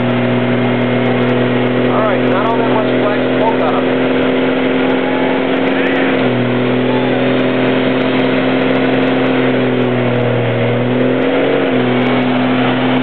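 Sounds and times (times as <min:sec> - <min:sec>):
pickup engine at high revs: 0:00.0 - 0:13.0
tyres spinning: 0:00.0 - 0:13.0.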